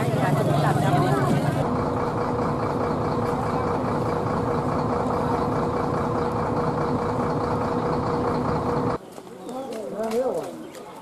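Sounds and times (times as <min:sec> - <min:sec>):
large engine idling: 0:00.0 - 0:09.0.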